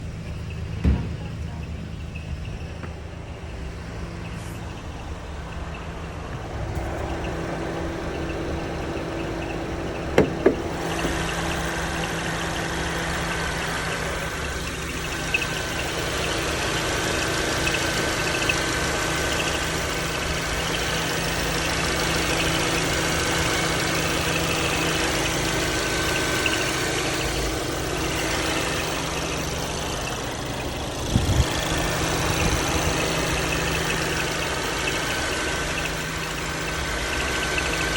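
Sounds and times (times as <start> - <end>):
car engine running: 0.0 - 37.9
faint high chirp: 0.1 - 37.9.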